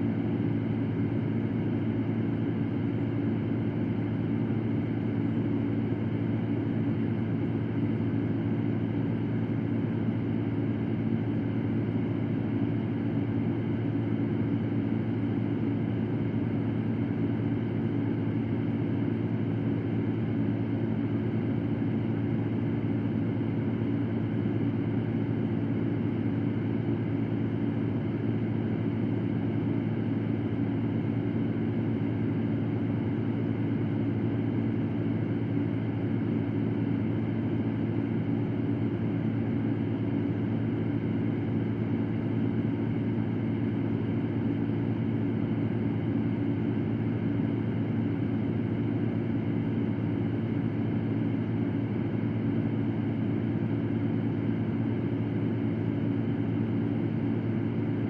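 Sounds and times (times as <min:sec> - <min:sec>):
electric fan running: 0:00.0 - 0:58.0.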